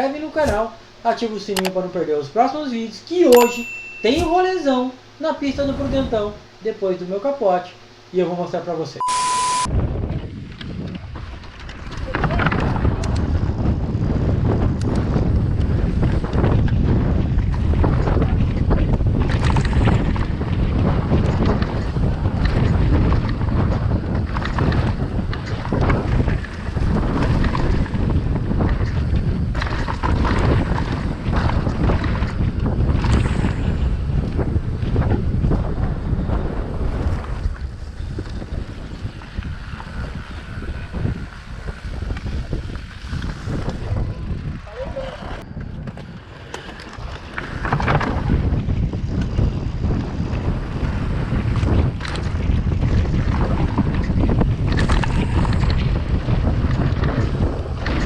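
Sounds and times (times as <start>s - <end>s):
wind buffeting microphone: 9.7s - 58.0s
bike rattling over rough trail: 9.9s - 58.0s.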